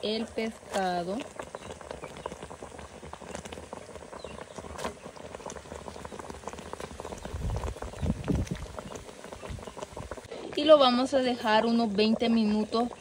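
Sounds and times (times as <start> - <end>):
broth bubbling: 0.0 - 13.0.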